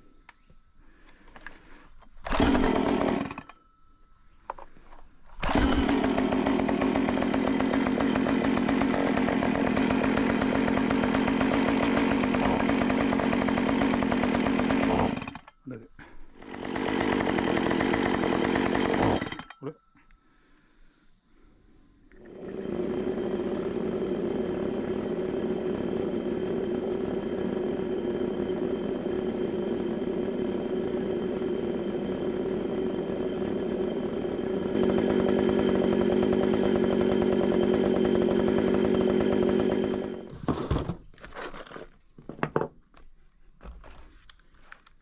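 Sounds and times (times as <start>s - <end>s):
chainsaw engine running: 1.3s - 3.5s, 5.3s - 19.6s, 22.2s - 41.8s.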